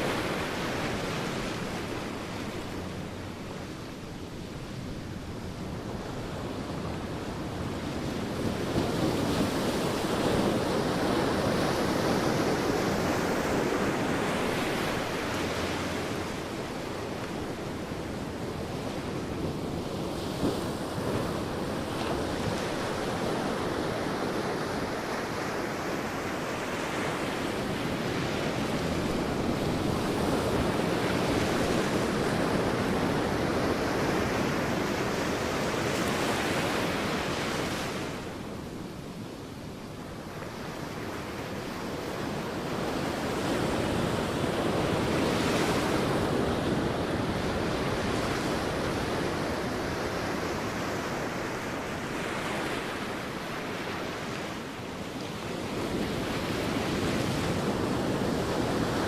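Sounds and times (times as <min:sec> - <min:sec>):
sea waves breaking on beach: 0:00.0 - 0:59.0
wind: 0:00.0 - 0:59.0.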